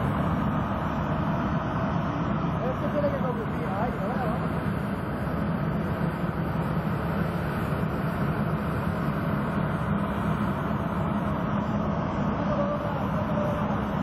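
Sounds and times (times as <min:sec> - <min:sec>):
sprayer fan humming: 0:00.0 - 0:14.0
tractor engine droning: 0:00.0 - 0:14.0.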